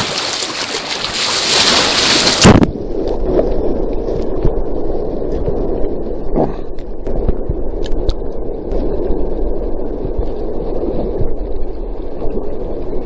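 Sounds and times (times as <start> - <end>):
muffled underwater churning rumble: 0.0 - 13.0.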